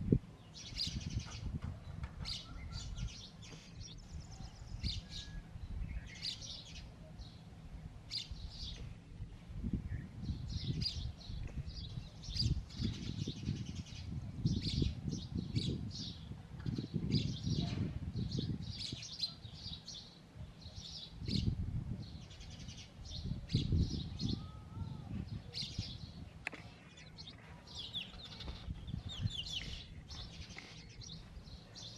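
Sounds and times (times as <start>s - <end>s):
sparrows chirping: 0.0s - 31.9s.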